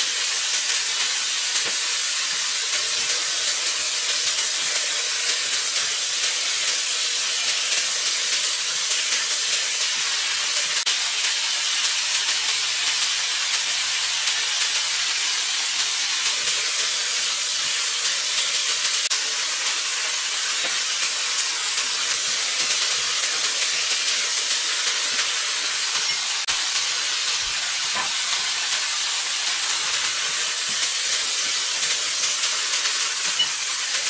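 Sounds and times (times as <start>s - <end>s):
food sizzling in a hot wok: 0.0s - 34.0s.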